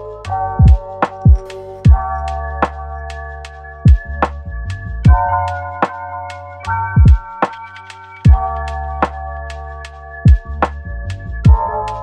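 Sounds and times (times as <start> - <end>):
mellow electronic music: 0.0 - 12.0.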